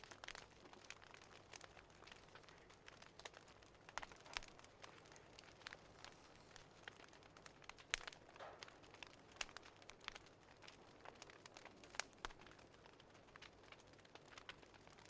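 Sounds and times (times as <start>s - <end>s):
faint wood fire crackling: 0.0s - 15.0s.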